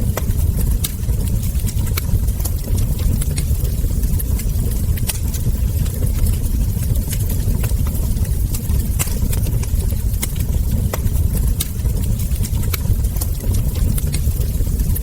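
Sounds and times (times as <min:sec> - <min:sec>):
low rumble of burning logs: 0:00.0 - 0:15.0
wood fire crackling and popping: 0:00.0 - 0:15.0.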